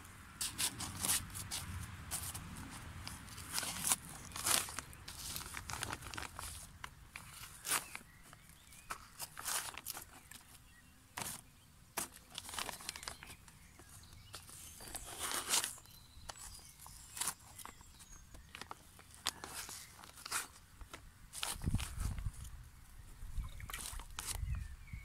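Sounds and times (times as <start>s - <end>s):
plastic liner crinkling: 0.4s - 10.6s, 11.2s - 22.5s, 23.4s - 24.6s.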